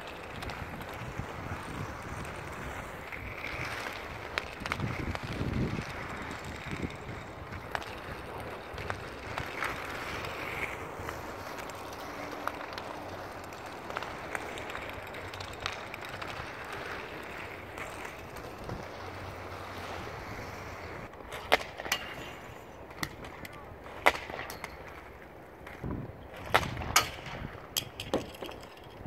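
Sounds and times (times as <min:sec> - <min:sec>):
wind noise on microphone: 0:00.0 - 0:12.4, 0:13.2 - 0:21.1, 0:25.7 - 0:29.0.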